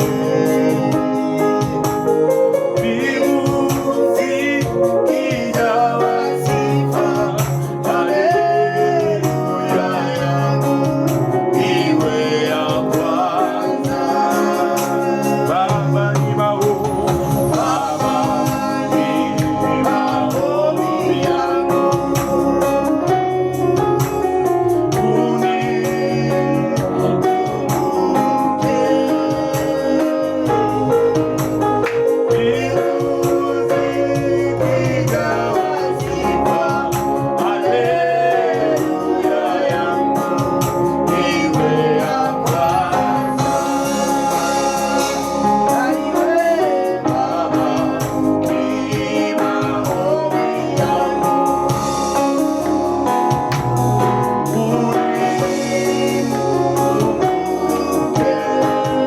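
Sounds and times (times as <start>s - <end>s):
keyboard organ: 0.0s - 59.0s
person singing gospel: 0.0s - 59.0s
steady beat: 0.0s - 59.0s.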